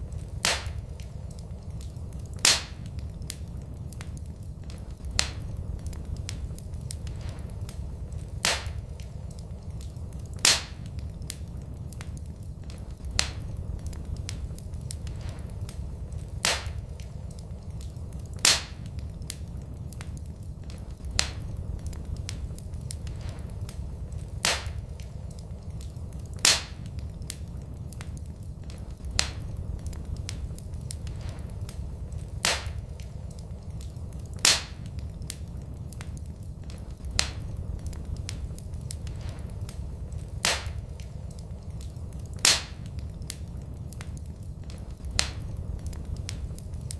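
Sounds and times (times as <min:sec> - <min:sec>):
fire popping: 0:00.0 - 0:46.9
low rumble: 0:00.0 - 0:46.9
wood fire crackling: 0:00.0 - 0:46.9.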